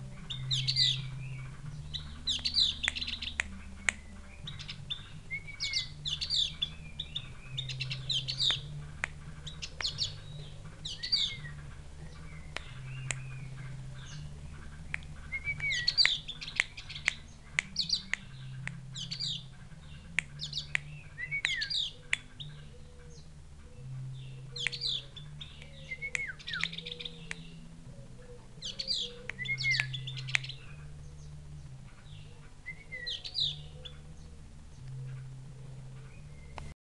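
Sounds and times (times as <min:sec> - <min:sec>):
bird sharp high chirps: 0:00.0 - 0:31.3, 0:31.9 - 0:35.3.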